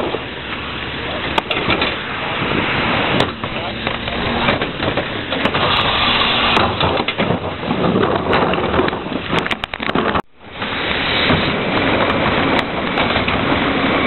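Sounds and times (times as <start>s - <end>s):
garbage truck engine running: 0.0s - 14.0s.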